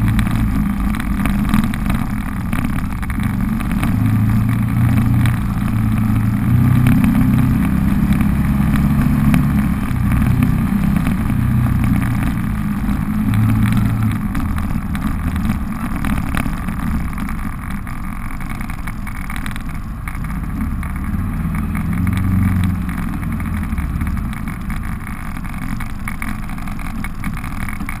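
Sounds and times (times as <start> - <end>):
engine running at low speed: 0.0 - 28.0.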